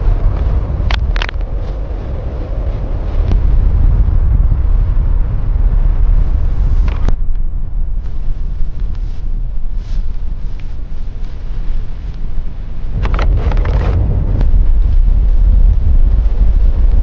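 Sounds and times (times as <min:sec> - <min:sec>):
blizzard wind: 0:00.0 - 0:17.0.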